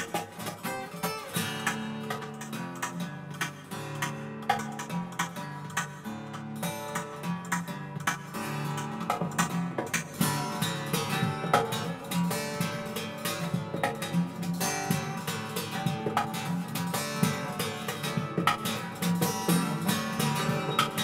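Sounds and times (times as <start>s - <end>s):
acoustic guitars playing: 0.0s - 21.0s.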